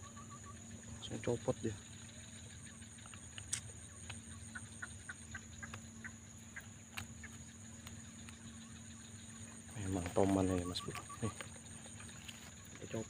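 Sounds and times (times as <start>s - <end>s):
faint low hum: 0.0s - 13.0s
high-pitched insect drone: 0.0s - 13.0s
short bird calls: 0.0s - 13.0s.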